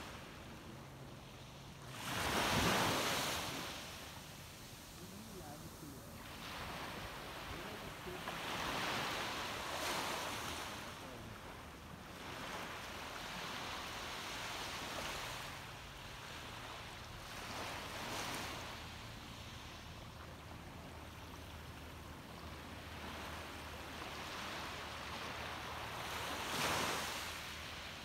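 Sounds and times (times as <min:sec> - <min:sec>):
small waves lapping on beach: 0:00.0 - 0:28.0.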